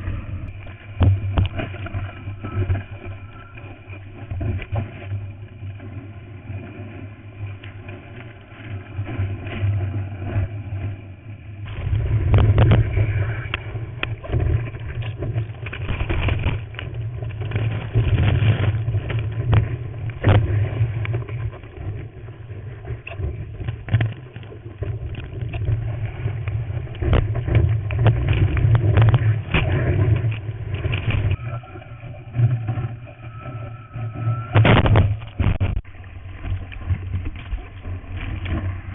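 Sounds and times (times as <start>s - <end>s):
water rushing against camera housing: 0.0s - 38.9s.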